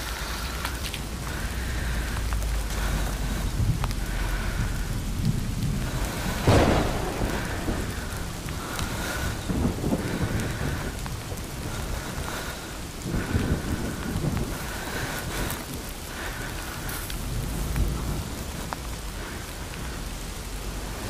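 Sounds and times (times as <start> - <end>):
footsteps on wet trail: 0.0 - 21.0
rain falling on foliage: 0.0 - 21.0.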